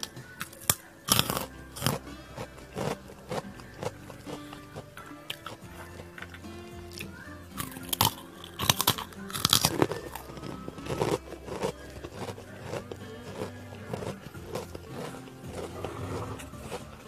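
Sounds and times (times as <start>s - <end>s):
crunchy snack bitten and chewed: 0.0s - 17.0s.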